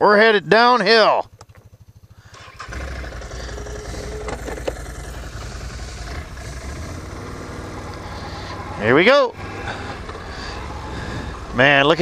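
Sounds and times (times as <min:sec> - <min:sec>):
atv engine running: 0:00.2 - 0:12.0.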